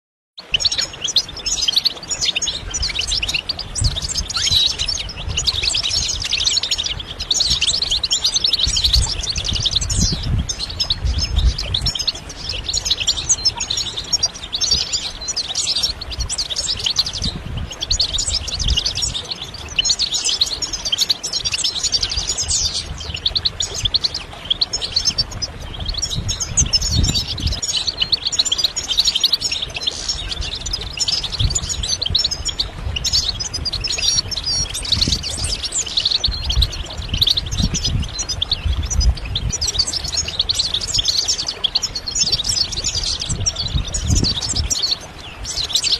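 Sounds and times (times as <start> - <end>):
goldfinch singing: 0.4 - 45.9.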